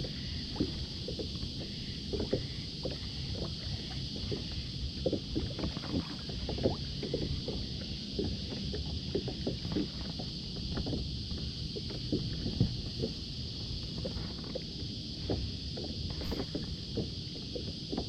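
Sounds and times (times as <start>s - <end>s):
knocks and drips against hull: 0.0s - 18.0s
water splashing around a kayak: 0.0s - 18.0s.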